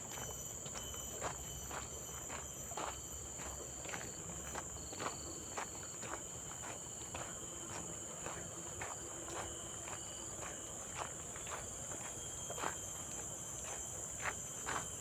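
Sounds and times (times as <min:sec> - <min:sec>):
footsteps on a trail: 0:00.0 - 0:15.0
high-pitched insect drone: 0:00.0 - 0:15.0.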